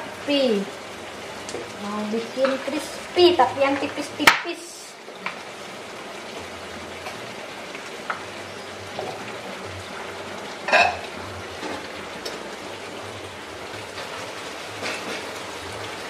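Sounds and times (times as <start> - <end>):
vegetables sizzling in frying pan: 0.0 - 16.0.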